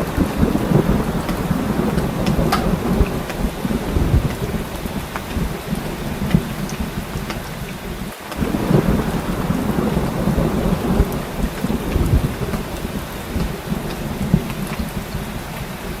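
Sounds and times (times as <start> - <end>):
heavy rain falling: 0.0 - 16.0
rolling thunder: 0.0 - 16.0.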